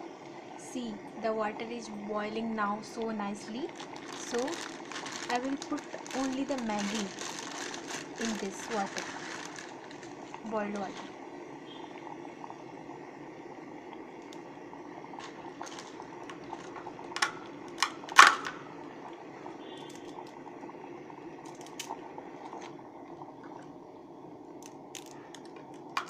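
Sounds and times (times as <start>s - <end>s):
water boiling in electric kettle: 0.0s - 26.0s.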